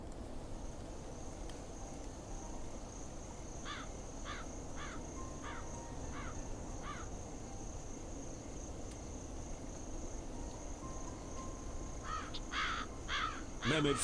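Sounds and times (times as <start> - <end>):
low background hum: 0.0 - 14.0
insect trill: 0.2 - 14.0.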